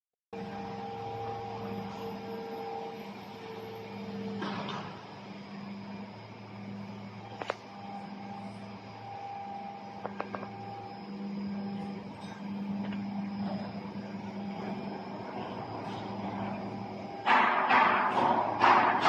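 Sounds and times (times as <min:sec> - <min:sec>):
electrical hum of equipment: 0:00.4 - 0:19.0.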